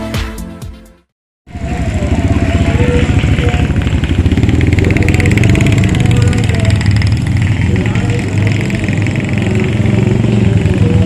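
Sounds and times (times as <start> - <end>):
motorcycle engine running: 1.5 - 11.0.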